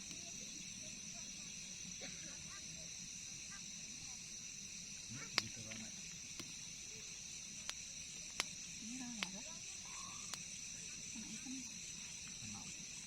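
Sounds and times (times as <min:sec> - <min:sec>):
faint distant voices: 0:00.0 - 0:13.0
night insects chirping: 0:00.0 - 0:13.0.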